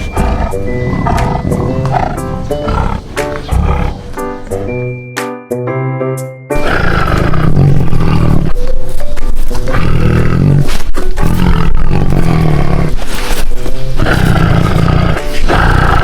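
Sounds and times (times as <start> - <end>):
tiger roaring: 0.0 - 4.8, 6.6 - 8.6, 9.6 - 16.0.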